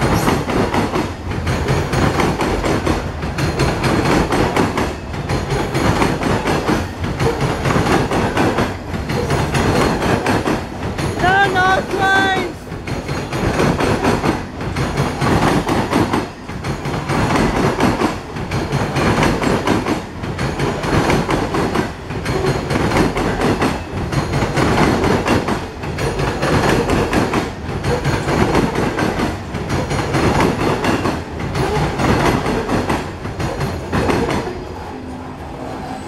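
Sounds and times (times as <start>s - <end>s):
train wheels rolling on rails: 0.0s - 36.0s.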